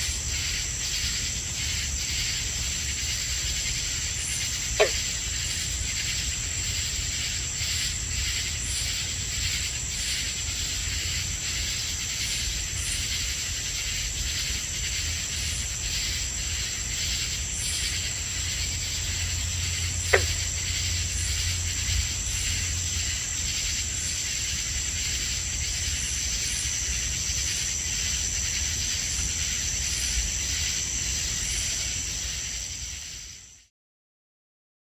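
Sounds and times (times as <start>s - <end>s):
katydid calls: 0.0s - 33.6s
crickets trilling: 0.0s - 33.7s.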